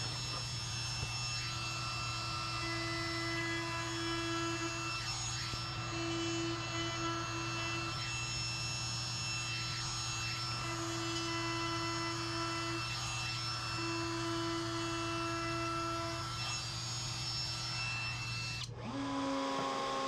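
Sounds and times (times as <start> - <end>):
router bit cutting wood: 0.0 - 20.0
router whining: 0.0 - 20.0.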